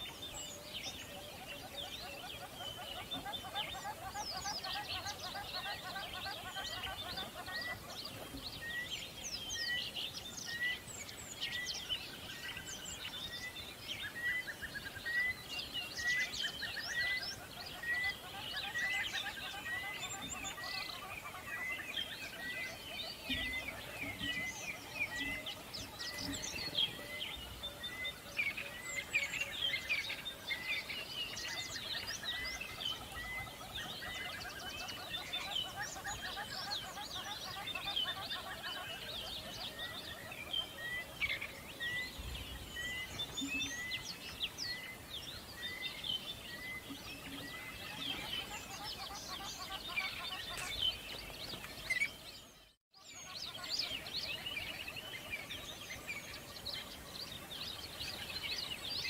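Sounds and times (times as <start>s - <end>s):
birds chirping in chorus: 0.0s - 59.0s.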